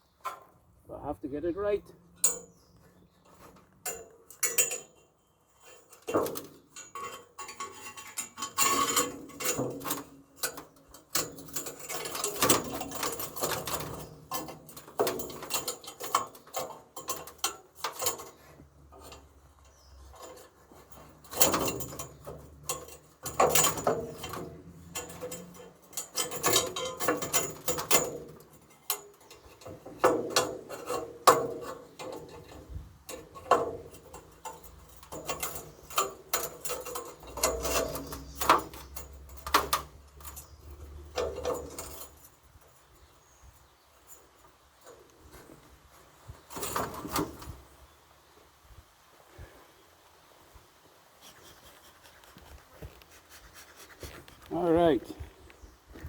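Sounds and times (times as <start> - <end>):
hands clicking and rattling parts: 2.1 - 47.7.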